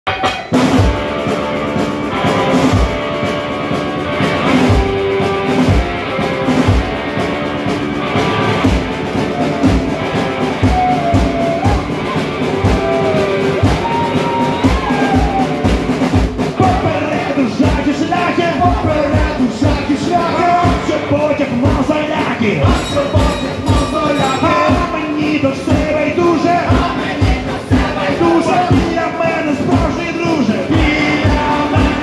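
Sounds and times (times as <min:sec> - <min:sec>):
electric guitar: 0:00.1 - 0:27.6
drum kit with kick drum: 0:00.1 - 0:32.0.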